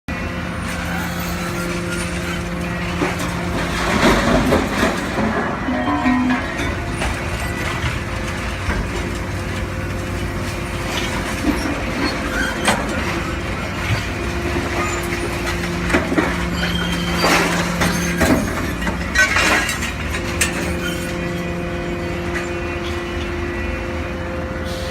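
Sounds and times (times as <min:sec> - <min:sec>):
metallic clanks and screeches: 0:00.5 - 0:23.4.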